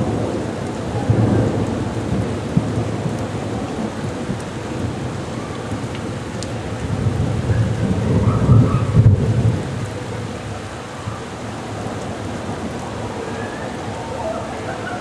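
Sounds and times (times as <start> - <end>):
heavy rain hissing: 0.0 - 15.0
thunder rolling: 0.0 - 15.0.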